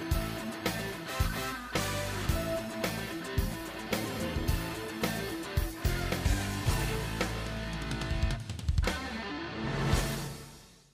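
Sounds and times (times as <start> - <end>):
instrumental guitar music: 0.0 - 10.6.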